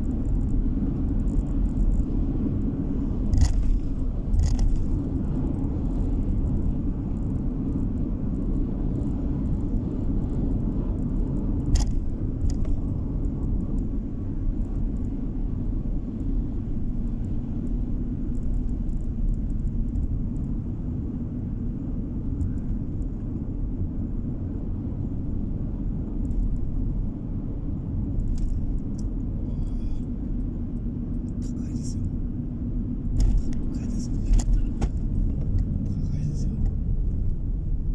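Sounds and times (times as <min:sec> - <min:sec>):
tyres and engine rumble: 0:00.0 - 0:37.9.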